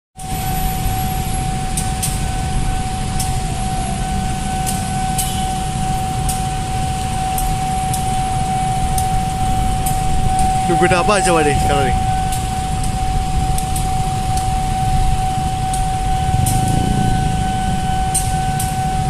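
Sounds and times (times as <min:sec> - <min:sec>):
crossing alarm steady high tone: 0:00.2 - 0:19.0.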